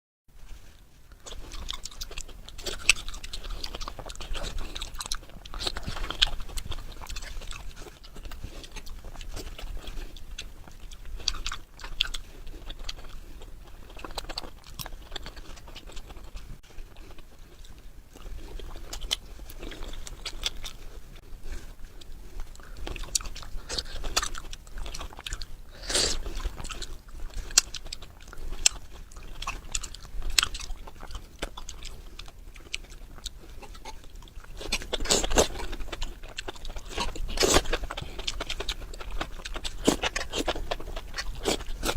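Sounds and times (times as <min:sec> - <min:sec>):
chewing and biting: 0:00.4 - 0:41.9.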